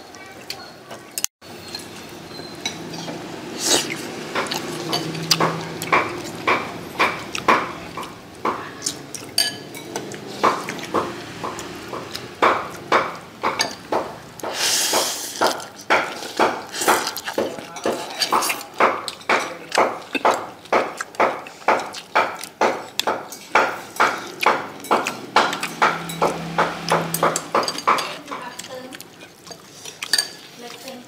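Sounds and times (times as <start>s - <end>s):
utensils clinking on a plate: 0.2s - 14.0s, 15.4s - 31.0s.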